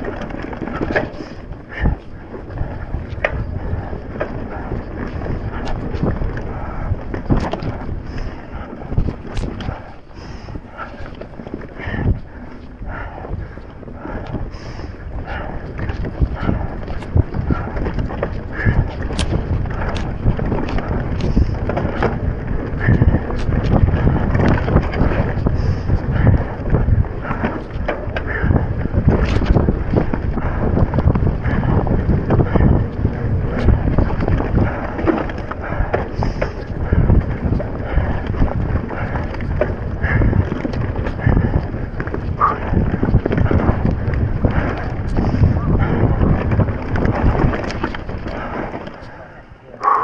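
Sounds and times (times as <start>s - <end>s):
bike knocks and rattles: 0.0s - 10.0s, 10.6s - 49.1s
rider breathing hard: 0.0s - 50.0s
wind buffeting microphone: 0.0s - 50.0s.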